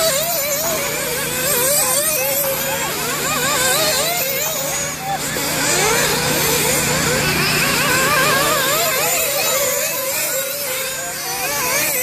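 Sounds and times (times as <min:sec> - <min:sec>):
rc buggy engines whining: 0:00.0 - 0:12.0.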